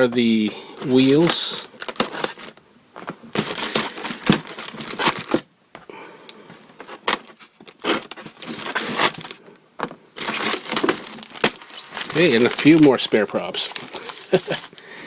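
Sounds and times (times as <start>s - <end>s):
plastic packaging crinkling: 0.8s - 5.4s, 6.8s - 9.4s, 10.2s - 15.0s.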